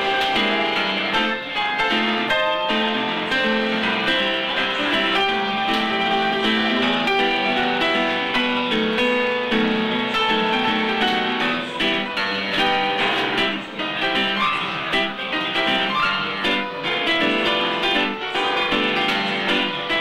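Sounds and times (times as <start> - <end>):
upright piano playing: 0.0 - 20.0.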